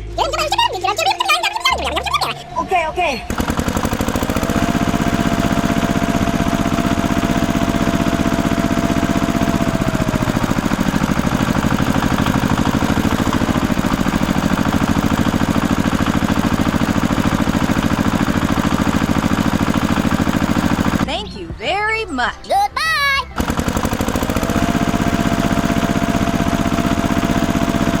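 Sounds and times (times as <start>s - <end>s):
small engine pulsing: 0.0s - 21.2s, 23.3s - 28.0s.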